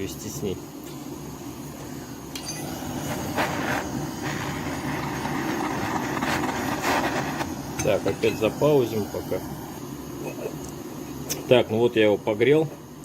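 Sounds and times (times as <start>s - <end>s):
gas torch flame rushing: 0.0s - 13.0s.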